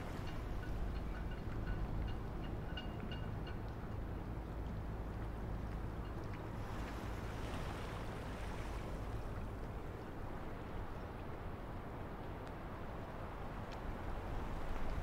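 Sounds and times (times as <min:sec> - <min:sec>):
harbour low rumble and hiss: 0:00.0 - 0:15.0.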